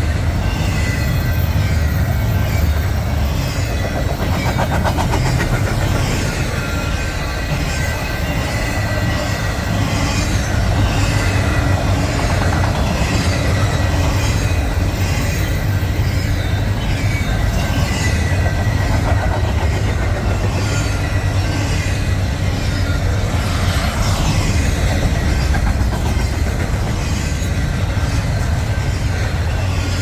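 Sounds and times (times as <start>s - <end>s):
freight train rumbling past: 0.0s - 30.0s
high wheel squeal: 0.0s - 30.0s.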